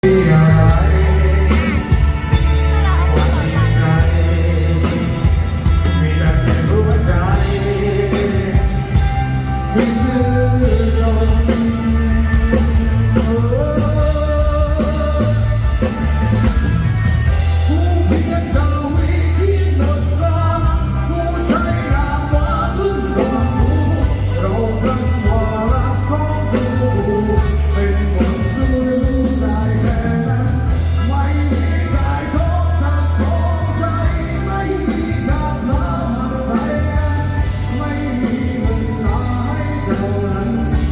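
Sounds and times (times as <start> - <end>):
bass: 0.0 - 40.9
drum kit: 0.0 - 40.9
person singing with vibrato: 0.0 - 40.9.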